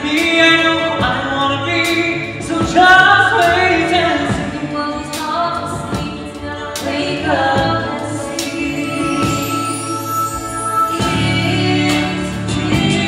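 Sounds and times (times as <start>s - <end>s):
backing music: 0.0s - 13.0s.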